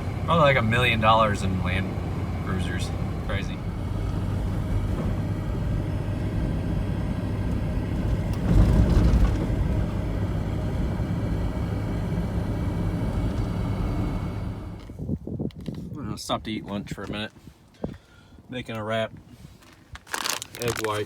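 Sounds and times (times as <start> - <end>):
car engine and road noise rumble: 0.0 - 17.8, 18.8 - 21.0.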